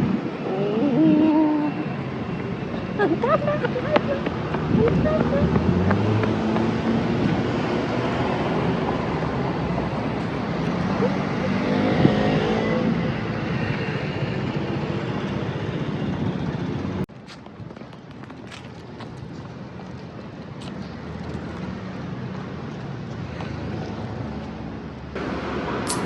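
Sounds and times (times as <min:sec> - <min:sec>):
car driving on road: 0:00.0 - 0:26.0.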